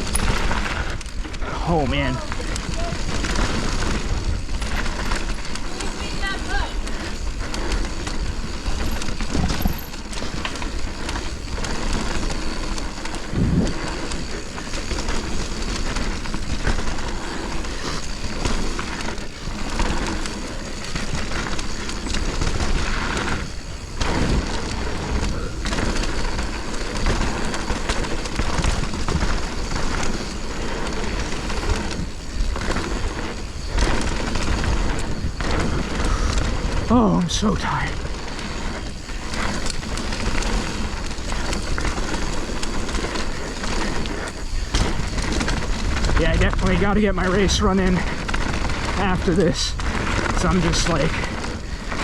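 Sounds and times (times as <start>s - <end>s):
bike rattling: 0.0s - 52.0s
tyre noise on dirt: 0.0s - 52.0s
wind rushing on microphone: 0.0s - 52.0s.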